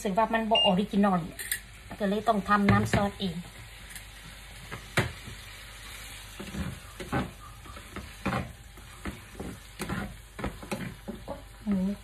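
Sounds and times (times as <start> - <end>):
pork sizzling in a frying pan: 0.0 - 12.0.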